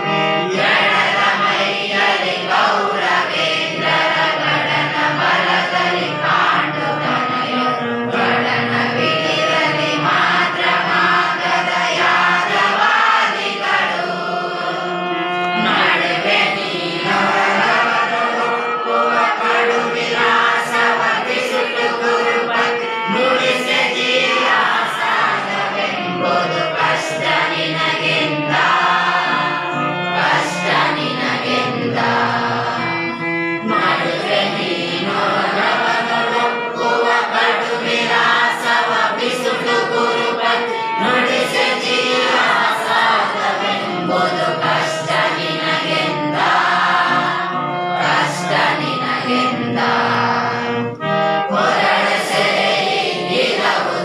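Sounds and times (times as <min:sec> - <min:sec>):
children singing in chorus: 0:00.0 - 0:54.0.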